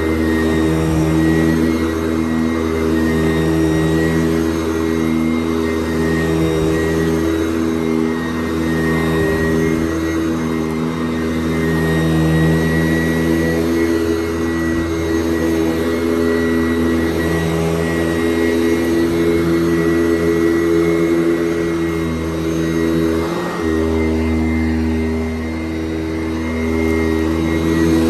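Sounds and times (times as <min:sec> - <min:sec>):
vacuum cleaner running on carpet: 0:00.0 - 0:28.0.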